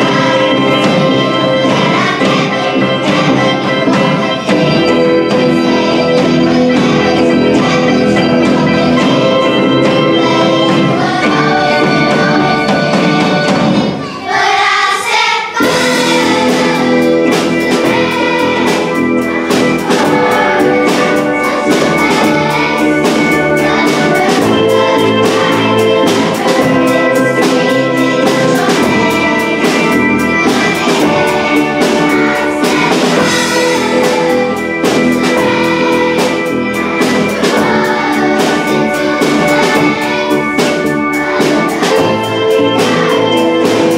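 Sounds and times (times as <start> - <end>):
children's choir singing: 0.0 - 43.9
drum beat: 0.0 - 43.9.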